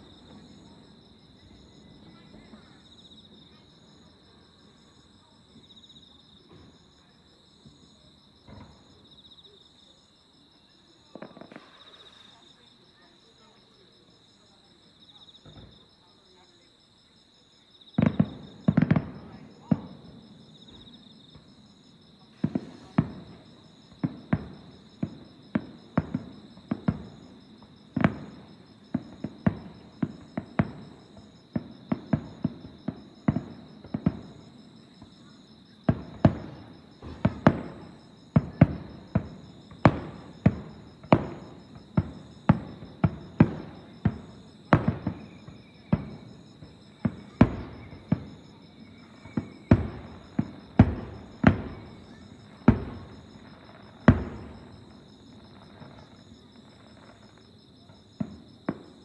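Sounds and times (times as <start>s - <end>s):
distant fireworks booming: 0.0s - 7.0s, 7.6s - 9.2s, 11.0s - 12.2s, 15.4s - 15.9s, 18.0s - 59.0s
crickets chirping: 0.0s - 59.0s.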